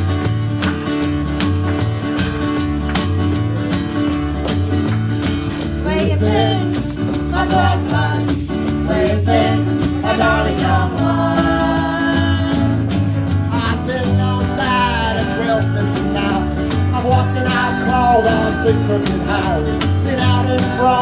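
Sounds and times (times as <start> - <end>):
bass line: 0.0 - 21.0
guitar strumming: 0.0 - 21.0.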